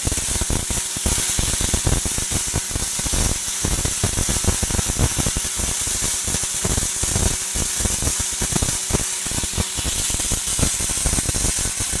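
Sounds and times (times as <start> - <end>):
welding arc hissing and crackling: 0.0 - 12.0.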